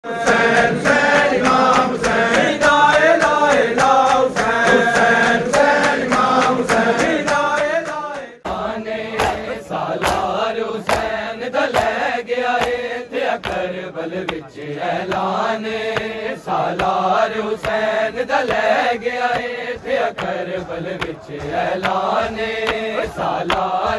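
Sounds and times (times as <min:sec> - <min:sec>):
crowd chanting: 0:00.0 - 0:23.9
men chanting: 0:00.0 - 0:23.9.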